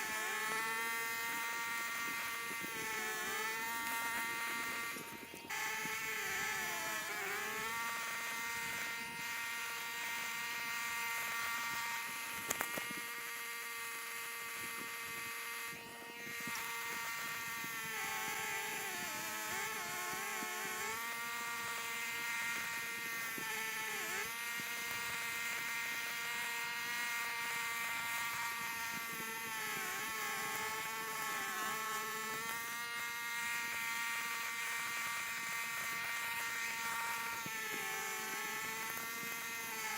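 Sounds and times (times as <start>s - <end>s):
small engine buzzing hum: 0.0s - 39.9s.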